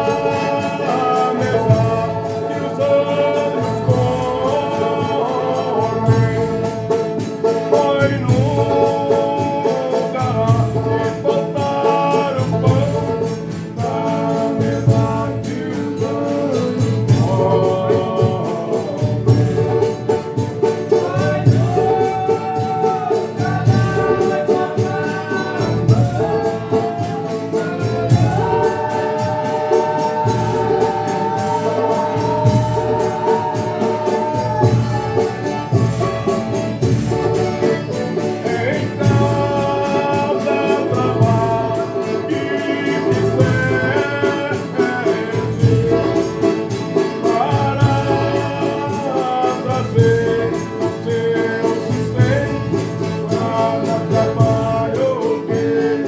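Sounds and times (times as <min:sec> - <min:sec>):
accompanying instruments: 0:00.0 - 0:56.0
group singing in several voices: 0:00.0 - 0:56.0.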